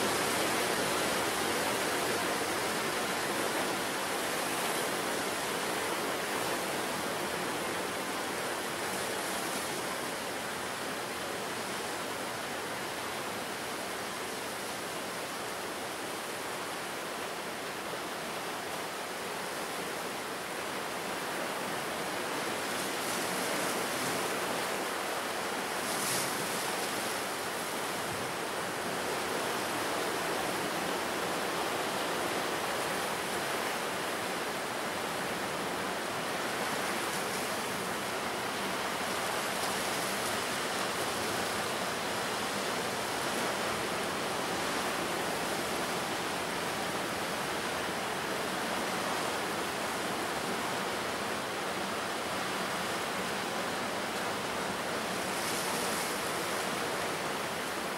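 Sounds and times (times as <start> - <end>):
ocean surf washing on shore: 0.0 - 57.9.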